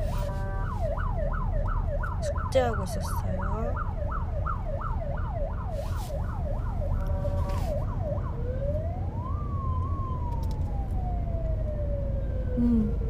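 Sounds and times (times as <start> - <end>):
car road rumble: 0.0 - 13.0
emergency vehicle siren: 0.0 - 13.0.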